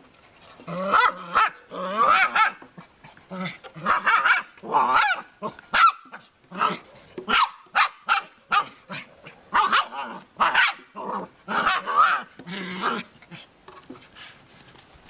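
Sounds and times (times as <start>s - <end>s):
dog barking and yapping: 0.7s - 13.1s.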